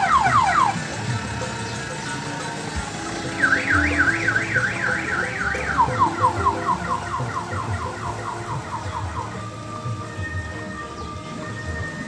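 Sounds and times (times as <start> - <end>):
electronic siren warbling: 0.0 - 1.9, 3.0 - 12.0
low engine rumble: 0.0 - 12.0.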